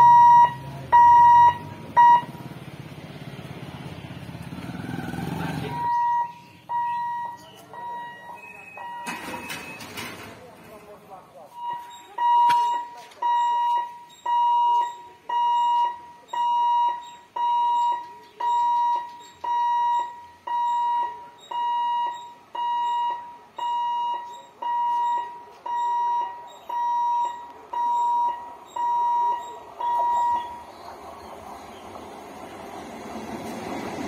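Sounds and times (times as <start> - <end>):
level crossing hooter beeping: 0.0 - 2.7, 5.1 - 10.4, 11.5 - 33.3.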